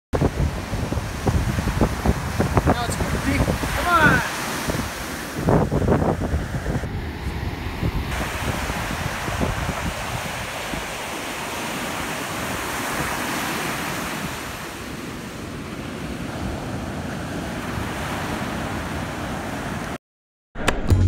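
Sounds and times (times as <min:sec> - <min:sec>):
ocean surf breaking on beach: 0:00.2 - 0:20.0.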